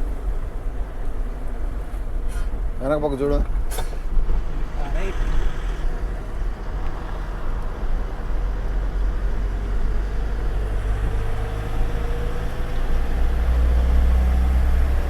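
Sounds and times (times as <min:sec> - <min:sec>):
road noise: 0:00.0 - 0:15.0
truck diesel engine rumbling: 0:00.0 - 0:15.0.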